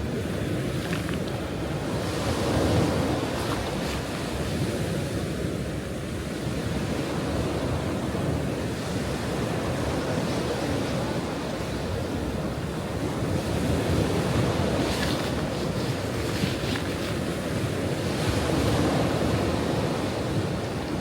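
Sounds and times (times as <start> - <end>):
ocean waves breaking on shore: 0.0 - 21.0
wind rumble on microphone: 0.0 - 21.0.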